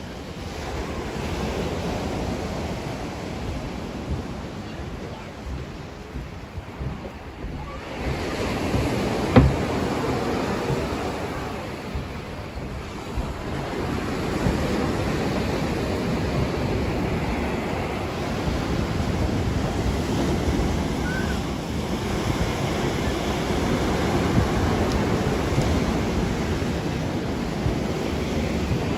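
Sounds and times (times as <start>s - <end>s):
surf washing onto beach: 0.0s - 28.9s
wind rumbling on microphone: 0.0s - 28.9s.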